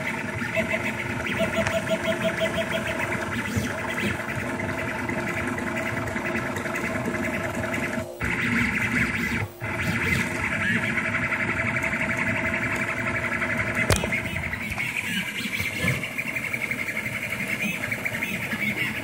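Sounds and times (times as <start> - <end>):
printer steady hum: 0.0 - 19.0
stepper motors whining: 0.0 - 19.0.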